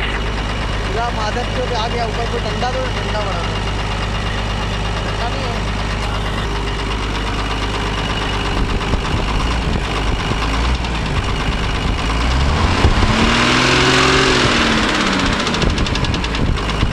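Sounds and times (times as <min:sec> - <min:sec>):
truck diesel engine revving: 0:00.0 - 0:16.9.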